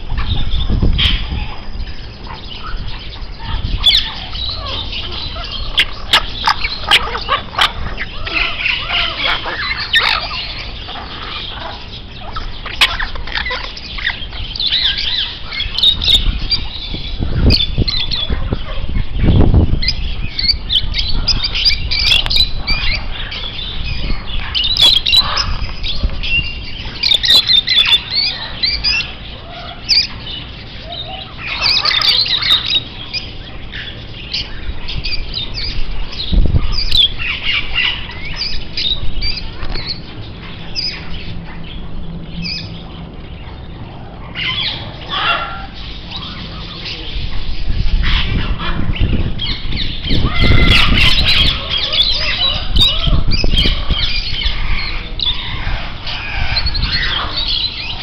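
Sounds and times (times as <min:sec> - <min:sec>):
parrots squawking and chirping: 0:00.0 - 0:58.0.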